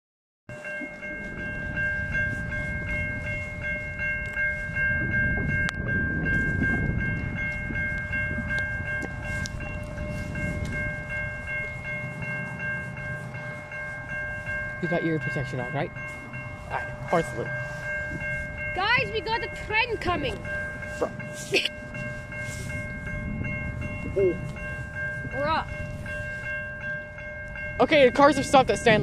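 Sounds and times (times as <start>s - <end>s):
railway crossing bell ringing: 0.5s - 29.0s
wind buffeting microphone: 0.8s - 29.0s.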